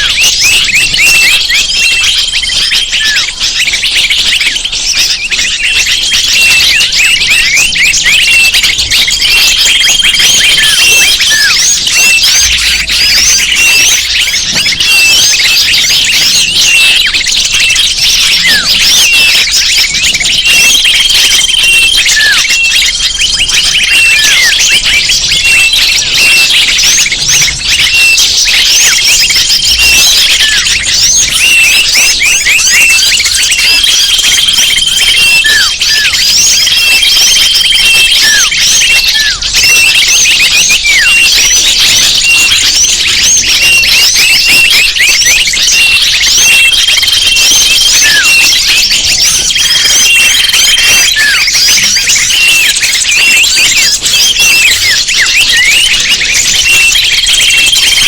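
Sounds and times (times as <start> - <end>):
high bird whistle: 0.0 - 58.0
small birds chirping: 0.0 - 58.0.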